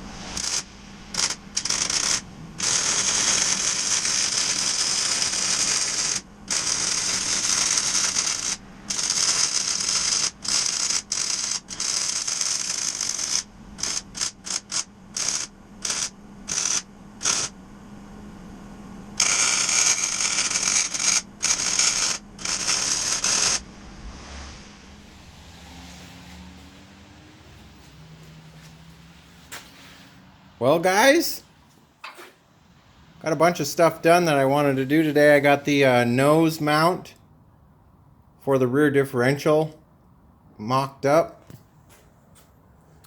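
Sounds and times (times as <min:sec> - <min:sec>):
hissing shop tool: 0:00.0 - 0:17.6, 0:19.2 - 0:36.1.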